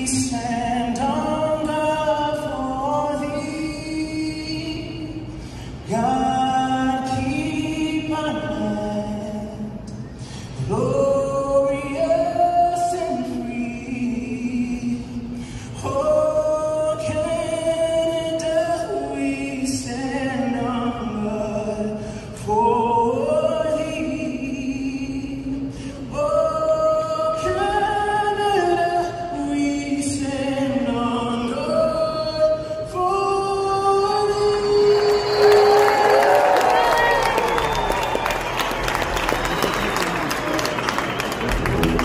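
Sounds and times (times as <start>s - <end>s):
man singing into a microphone: 0.0s - 35.8s.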